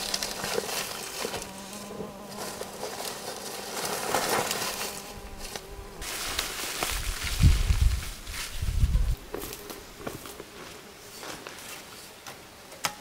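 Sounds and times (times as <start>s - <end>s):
flying insect buzzing: 0.0s - 12.2s
dry leaves and soil rustling: 0.0s - 12.5s.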